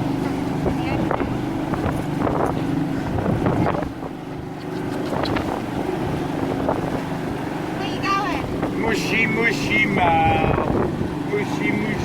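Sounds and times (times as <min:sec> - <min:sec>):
motorboat engine running: 0:00.0 - 0:12.0
wind buffeting microphone: 0:00.0 - 0:12.0.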